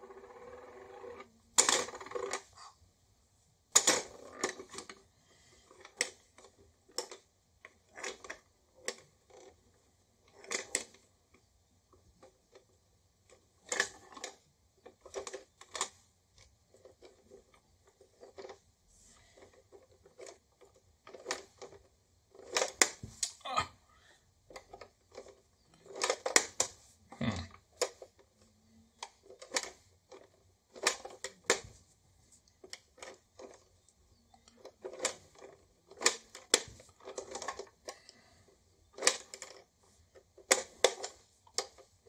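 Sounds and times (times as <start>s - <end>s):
plastic toy clicking and clattering: 0.0s - 2.9s, 3.7s - 23.4s, 24.4s - 42.0s.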